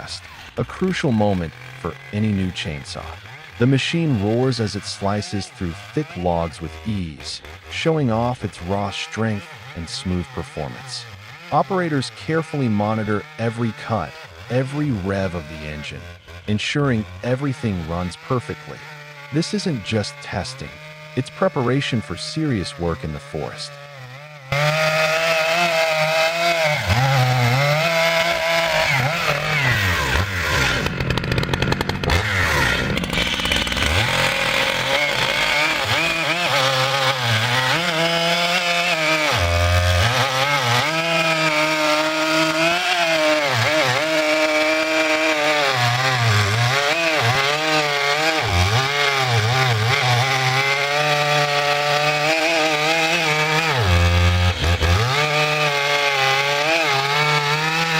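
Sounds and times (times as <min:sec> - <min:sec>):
chainsaw cutting logs: 0:00.0 - 0:57.9.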